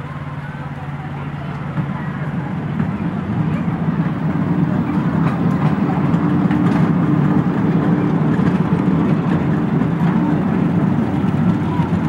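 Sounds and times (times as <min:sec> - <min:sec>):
small train rumbling on rails: 0:00.0 - 0:12.0.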